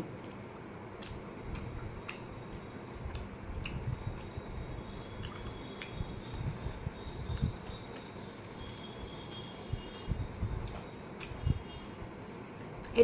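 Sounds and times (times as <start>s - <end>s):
person chewing food: 0.0s - 11.9s.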